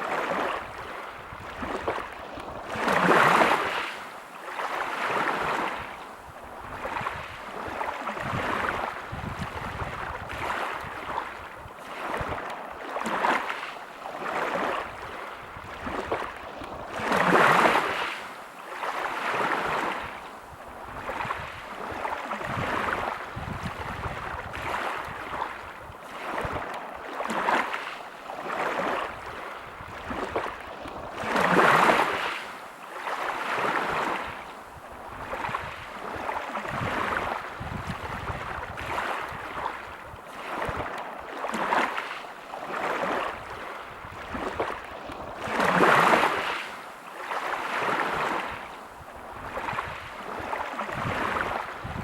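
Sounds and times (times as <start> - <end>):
waves breaking on pebble beach: 0.0 - 6.0, 6.7 - 20.2, 21.0 - 34.4, 35.2 - 52.0.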